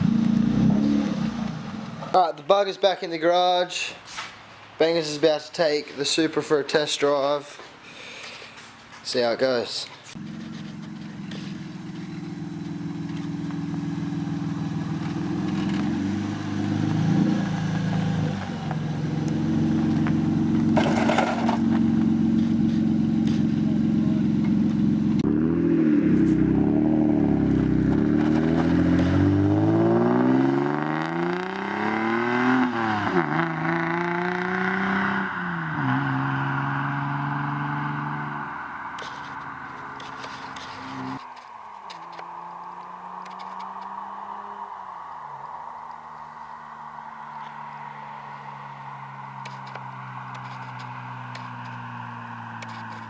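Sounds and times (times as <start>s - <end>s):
car engine revving: 0.0s - 2.2s, 10.2s - 41.2s, 41.9s - 53.0s.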